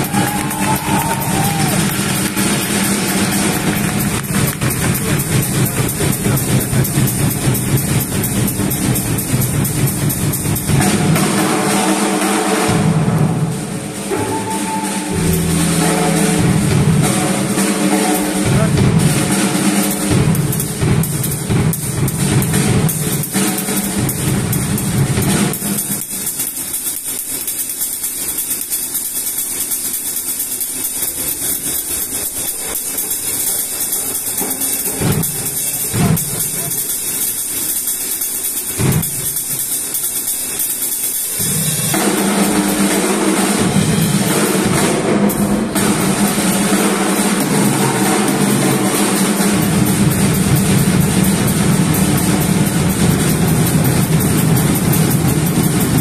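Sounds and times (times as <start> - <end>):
cymbal playing: 0.0 - 56.0
loud drumming: 0.0 - 56.0.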